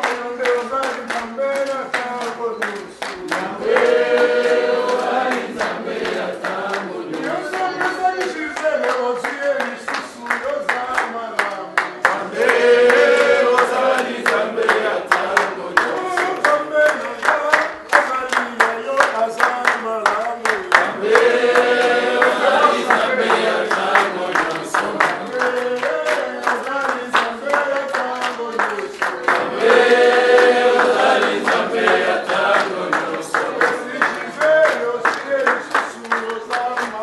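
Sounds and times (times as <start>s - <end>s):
congregation singing: 0.0s - 37.0s
hands clapping in a steady beat: 0.0s - 37.0s.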